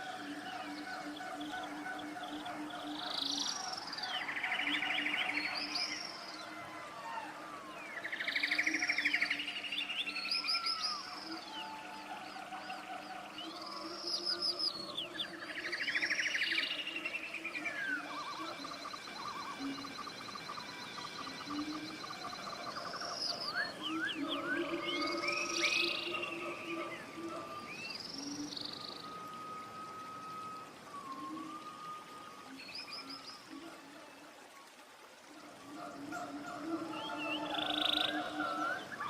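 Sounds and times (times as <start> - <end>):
faint bird calls: 0.0 - 39.0
songbird singing: 0.0 - 39.0.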